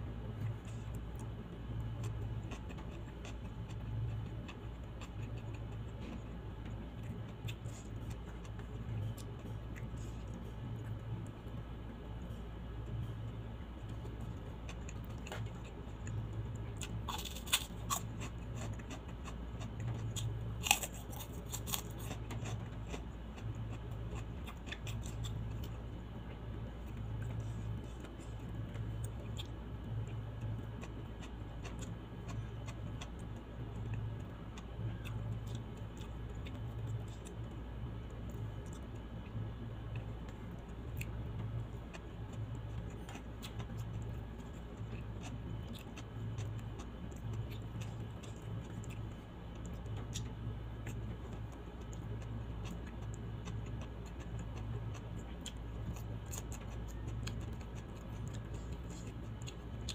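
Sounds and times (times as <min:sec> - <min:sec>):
pulsing low hum: 0:00.0 - 0:59.9.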